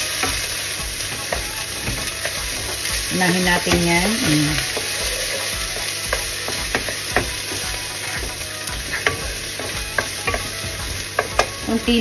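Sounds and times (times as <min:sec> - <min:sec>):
onion sizzling in oil: 0:00.0 - 0:12.0
wooden spoon tapping and scraping pan: 0:00.0 - 0:12.0.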